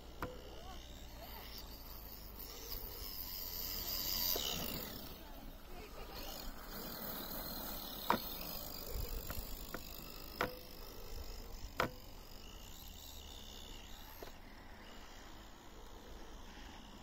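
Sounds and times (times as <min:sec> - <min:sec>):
electric motor high whine: 0:00.0 - 0:17.0.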